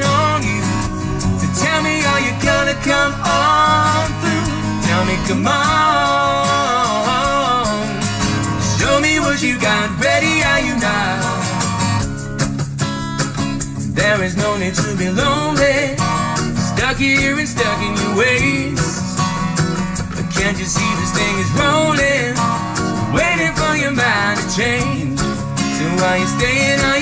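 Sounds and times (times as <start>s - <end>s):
man singing into microphone: 0.0s - 12.0s, 13.8s - 19.3s, 20.2s - 27.0s
acoustic guitars strummed: 0.0s - 27.0s.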